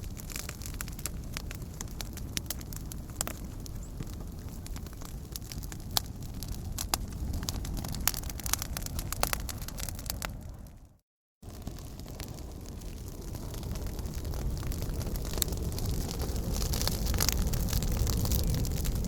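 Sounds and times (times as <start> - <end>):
fire crackling and popping: 0.0 - 19.0
fireplace fire rumbling: 0.0 - 19.0.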